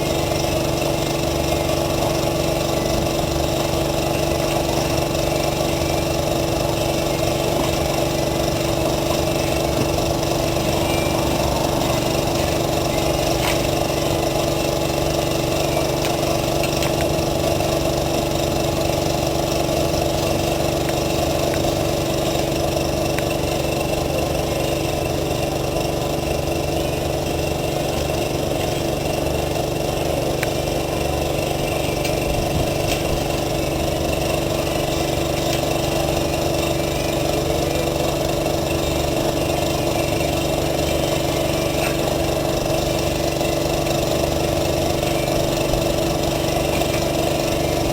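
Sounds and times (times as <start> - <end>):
small engine humming: 0.0 - 47.9.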